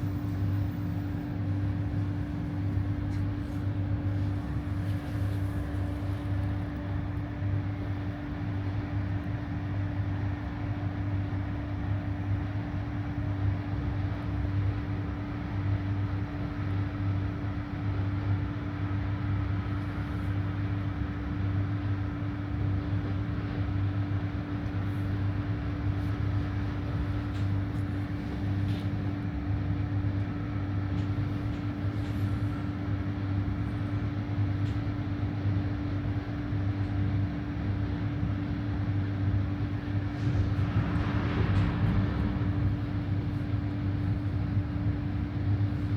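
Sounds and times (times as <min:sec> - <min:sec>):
electric train running rumble: 0:00.0 - 0:45.9.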